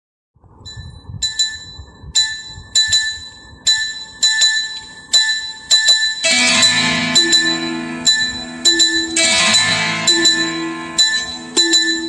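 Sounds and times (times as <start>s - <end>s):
bell-like glass chime: 0.7s - 12.0s.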